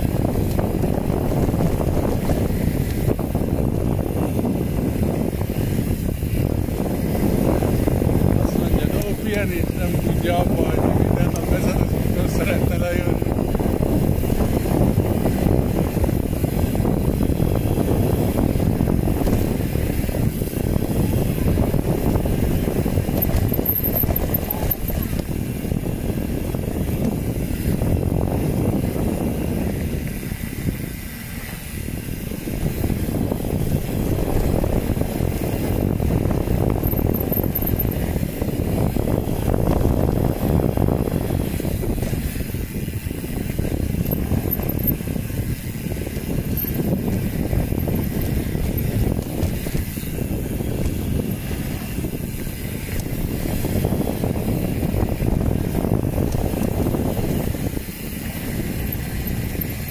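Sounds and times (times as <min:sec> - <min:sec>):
tyres rumbling over dirt trail: 0:00.0 - 0:59.9
wind buffeting microphone: 0:00.0 - 0:59.9.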